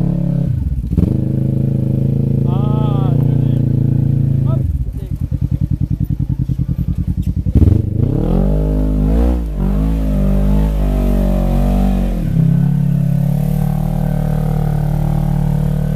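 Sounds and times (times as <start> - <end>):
engine labouring and revving: 0.0 - 15.9.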